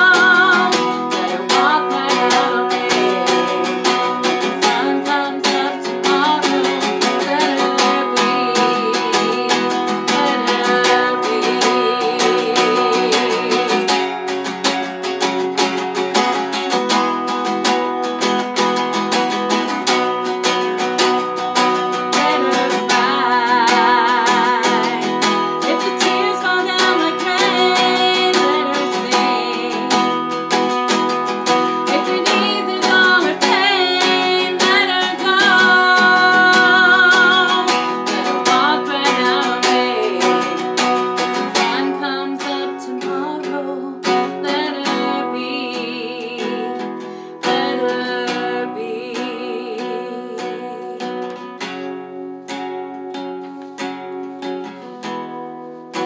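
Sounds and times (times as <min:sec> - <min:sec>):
person singing with vibrato: 0:00.0 - 0:51.9
acoustic guitar strumming: 0:00.0 - 0:56.0.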